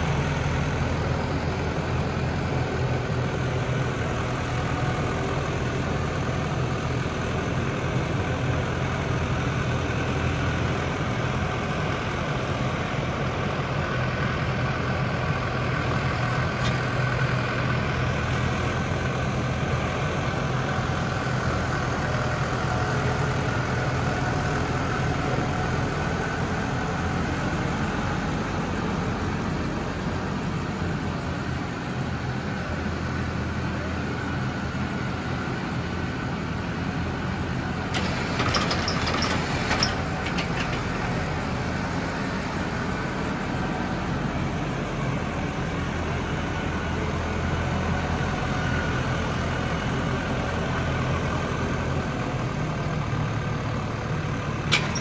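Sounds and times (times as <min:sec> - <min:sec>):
front loader scooping manure: 0:00.0 - 0:55.0
tractor diesel engine running: 0:00.0 - 0:55.0.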